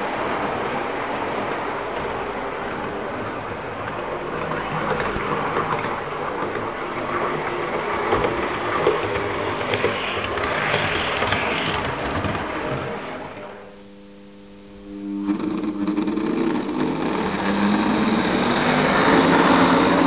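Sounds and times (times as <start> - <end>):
model trains whirring on track: 0.0 - 13.6, 14.9 - 20.0.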